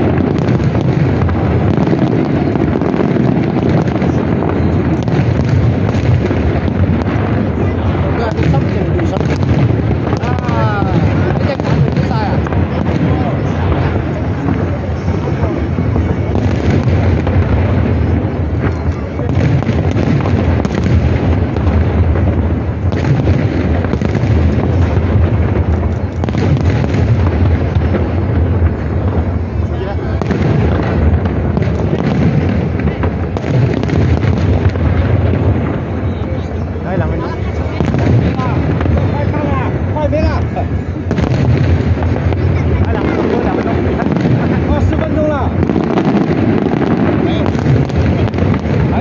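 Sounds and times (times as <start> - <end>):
sharp firework cracks: 0.0 - 49.0.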